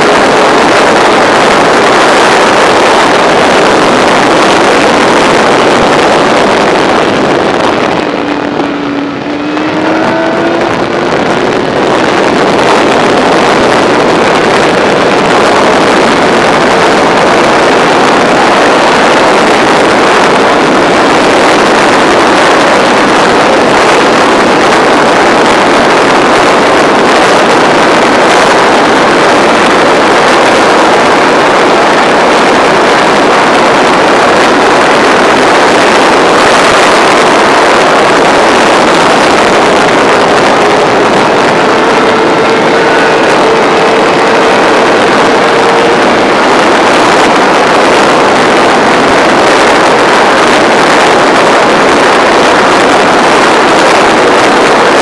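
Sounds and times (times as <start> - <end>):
racing motorcycle engine: 0.0 - 55.0
wind rush on microphone: 0.0 - 55.0.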